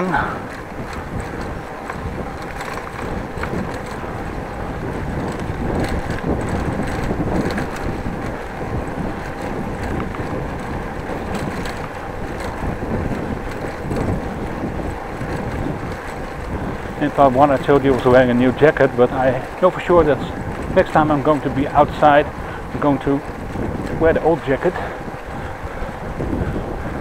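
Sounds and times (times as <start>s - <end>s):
bike rattling: 0.0s - 27.0s
wind rushing over microphone: 0.0s - 27.0s.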